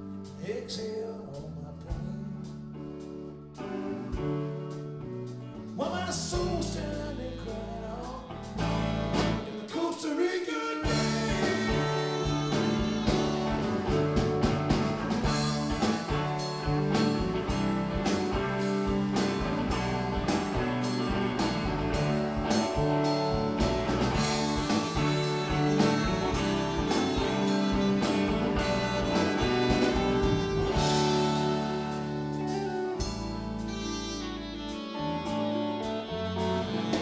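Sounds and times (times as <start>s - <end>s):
electric guitars and bass: 0.0s - 9.9s, 10.8s - 37.0s
drum kit beat: 3.6s - 9.7s, 10.8s - 37.0s.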